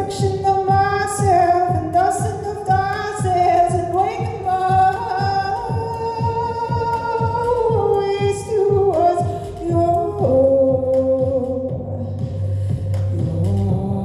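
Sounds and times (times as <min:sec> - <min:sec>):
processed female vocal tones: 0:00.0 - 0:14.0.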